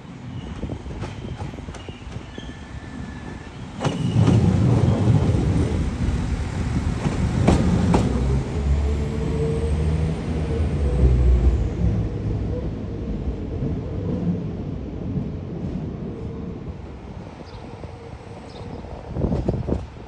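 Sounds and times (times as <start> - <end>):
train engine and wheel rumble: 0.0 - 20.0.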